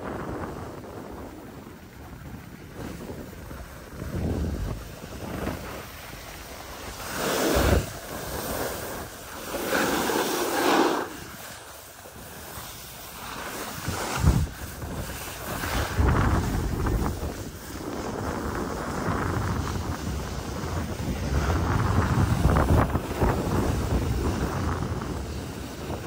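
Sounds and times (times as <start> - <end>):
skis scraping over snow: 0.0 - 26.0
wind on microphone: 0.0 - 26.0.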